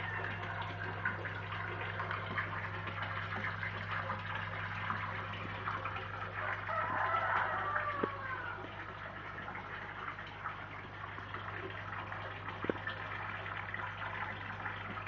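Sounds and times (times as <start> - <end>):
steady low hum: 0.0 - 15.0
water trickling and bubbling: 0.0 - 15.0.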